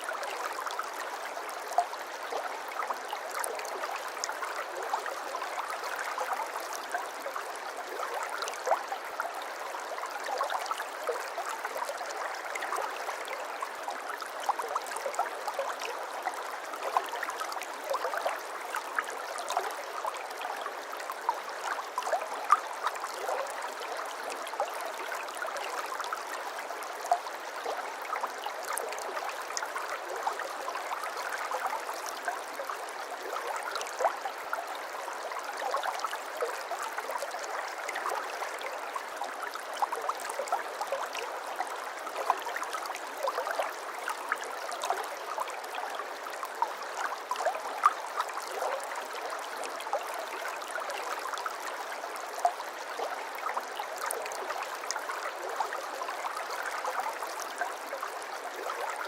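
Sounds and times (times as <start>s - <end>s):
stream babbling and trickling: 0.0s - 59.0s.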